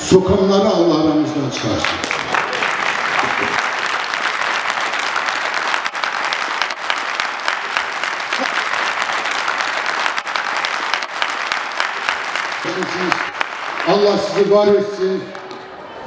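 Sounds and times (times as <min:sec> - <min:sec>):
audience applauding: 0:01.5 - 0:16.0.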